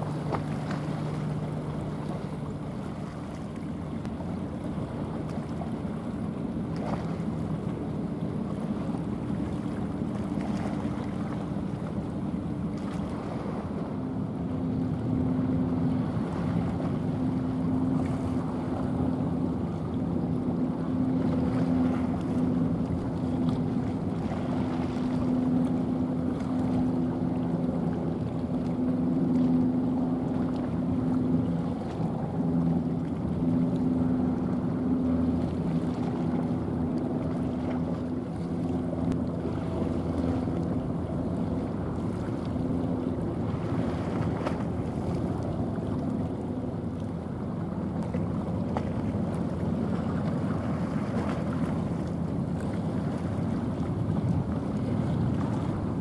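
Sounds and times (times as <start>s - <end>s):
ship diesel engine drone: 0.0s - 56.0s
water rushing along hull: 0.0s - 56.0s.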